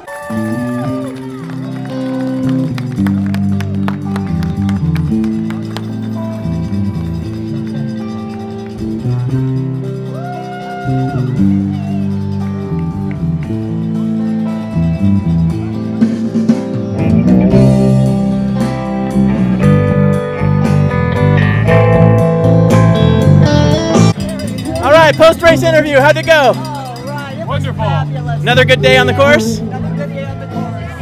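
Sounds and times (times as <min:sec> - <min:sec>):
guitar-led music: 0:00.0 - 0:31.0
percussion: 0:00.0 - 0:31.0.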